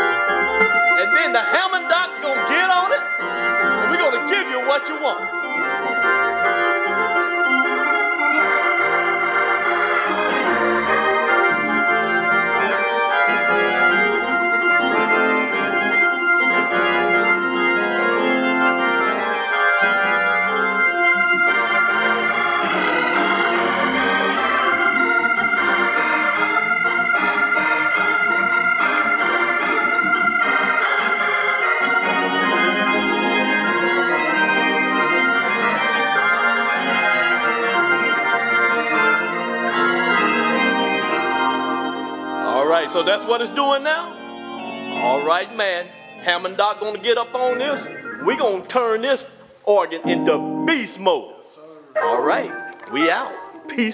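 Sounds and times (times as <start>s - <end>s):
organ playing loud chords: 0.0s - 53.9s.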